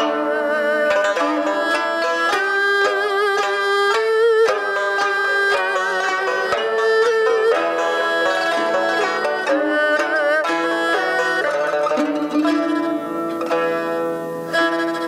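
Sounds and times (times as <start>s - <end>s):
bowed string wavering lines: 0.0s - 15.0s
plucked zither notes: 0.0s - 15.0s.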